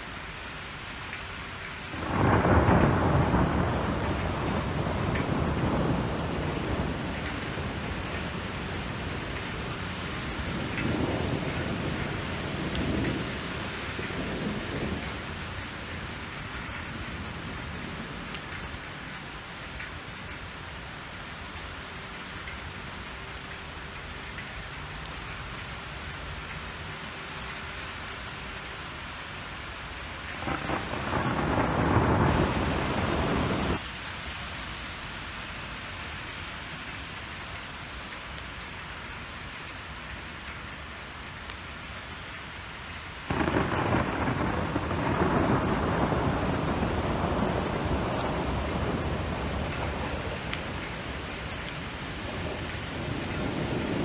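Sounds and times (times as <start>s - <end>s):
hail and rain pelting: 0.0s - 34.0s, 36.2s - 54.0s.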